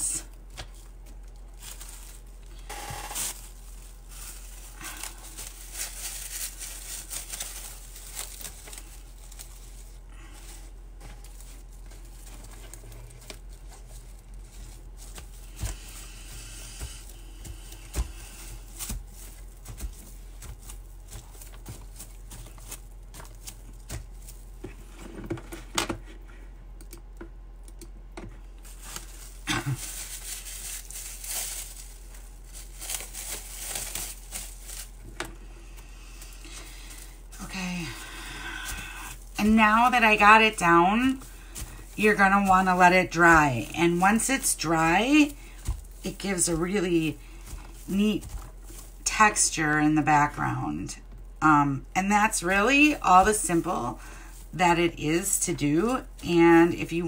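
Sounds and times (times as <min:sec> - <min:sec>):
plastic wrap crackling: 0:00.0 - 0:25.3, 0:28.5 - 0:50.0, 0:50.8 - 0:57.0.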